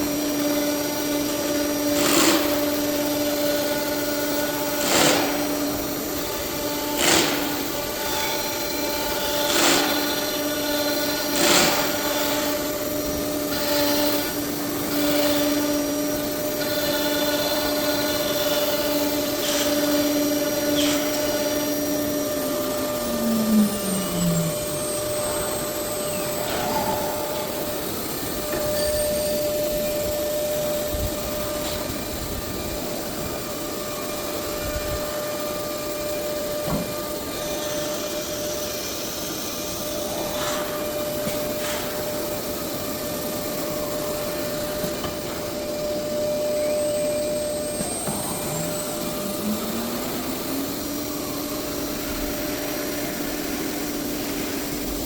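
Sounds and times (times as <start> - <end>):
cnc router spindle whine: 0.0 - 55.0.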